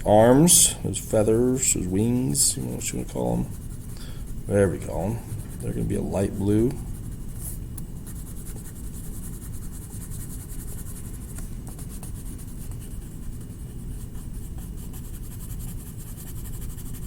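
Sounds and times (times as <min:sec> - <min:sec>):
steady low hum: 0:00.0 - 0:17.0
colouring strokes scratching on paper: 0:00.1 - 0:17.0.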